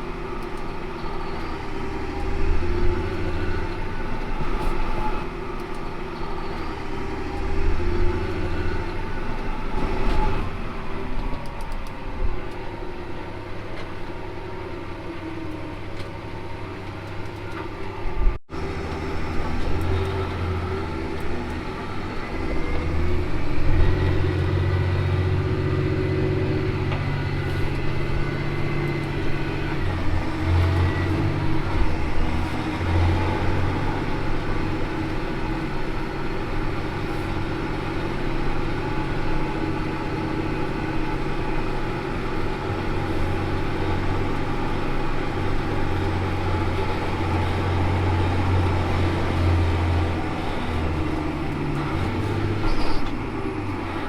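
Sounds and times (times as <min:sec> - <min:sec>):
large diesel engine running: 0:00.0 - 0:54.0.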